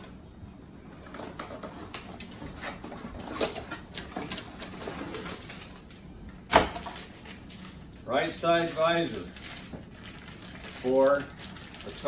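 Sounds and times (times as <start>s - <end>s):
cardboard and plastic rustling: 0.9s - 12.0s
loud plastic crackle: 1.0s - 12.0s.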